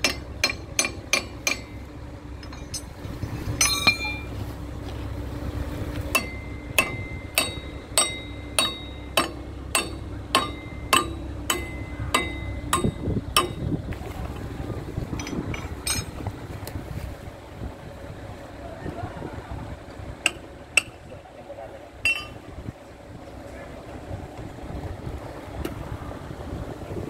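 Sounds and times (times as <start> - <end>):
diesel engine humming: 0.0 - 27.0.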